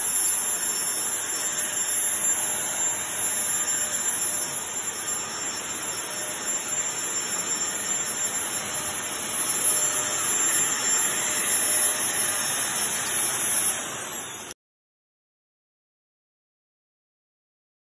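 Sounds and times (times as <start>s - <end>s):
high-pitched whine: 0.0s - 14.6s.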